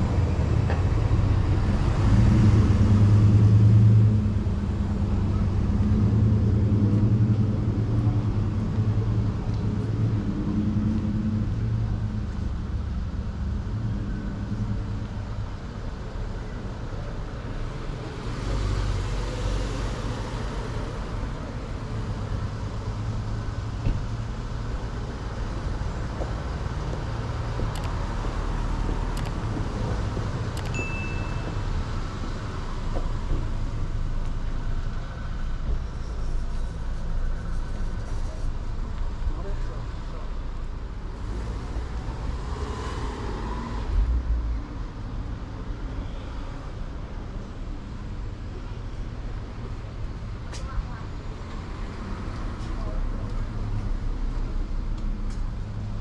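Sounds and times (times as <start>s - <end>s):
cars driving past slowly: 0.0s - 56.0s.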